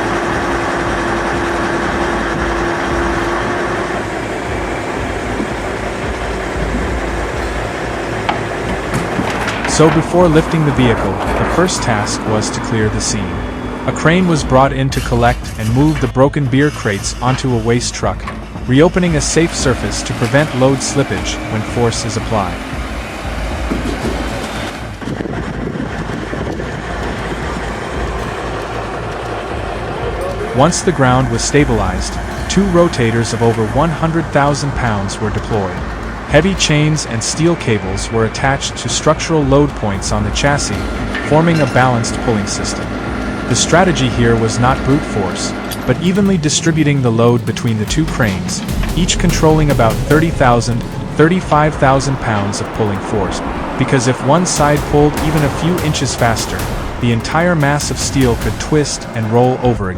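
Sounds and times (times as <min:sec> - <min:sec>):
heavy vehicle engine rumbling: 0:00.0 - 0:59.9
held hum: 0:00.0 - 0:59.9.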